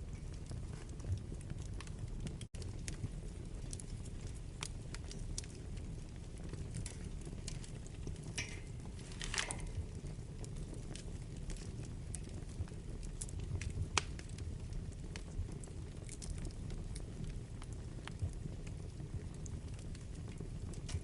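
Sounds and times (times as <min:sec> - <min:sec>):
fire crackling and popping: 0:00.0 - 0:21.0
fire flames rumbling: 0:00.0 - 0:21.0.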